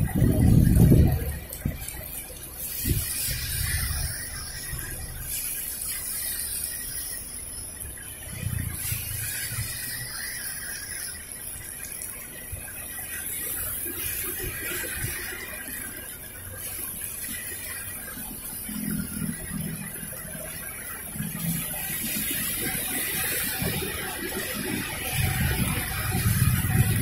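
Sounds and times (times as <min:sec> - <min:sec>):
heavy rain falling: 0:00.0 - 0:27.0
traffic on wet road: 0:00.0 - 0:27.0.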